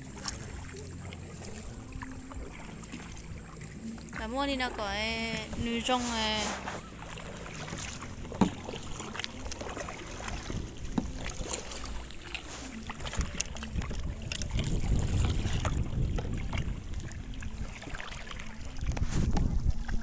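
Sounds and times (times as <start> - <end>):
kayak paddles splashing in water: 0.0 - 20.0
wind rumbling on microphone: 1.3 - 20.0.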